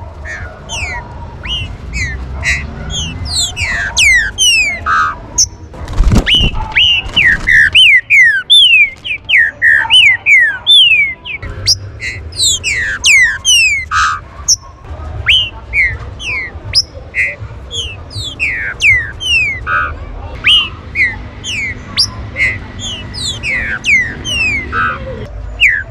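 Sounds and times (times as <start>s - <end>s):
birds whistling calls: 0.1s - 25.9s.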